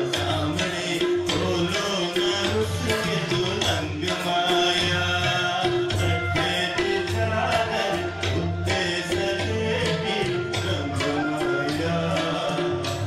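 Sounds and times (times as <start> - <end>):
man singing into a microphone: 0.0 - 13.0
tabla playing rhythm: 0.0 - 13.0.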